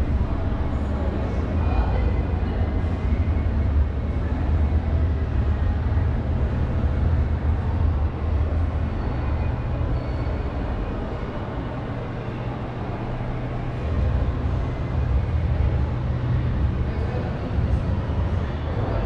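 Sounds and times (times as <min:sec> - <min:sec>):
large indoor hall background noise: 0:00.0 - 0:19.0.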